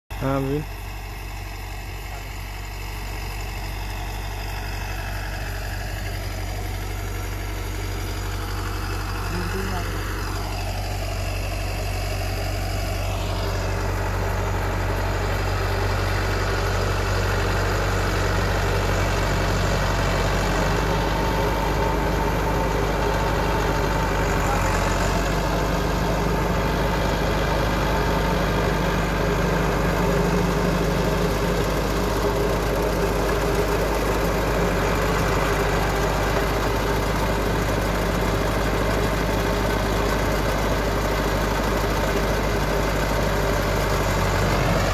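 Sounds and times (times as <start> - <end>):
tractor diesel engine running: 0.1 - 44.9.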